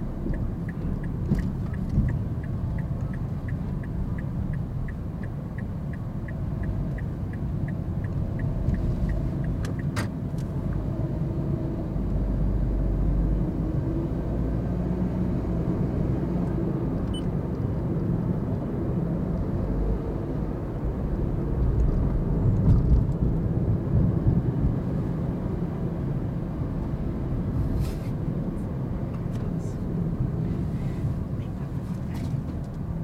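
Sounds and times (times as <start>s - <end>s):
car cabin engine and road rumble: 0.0s - 33.0s.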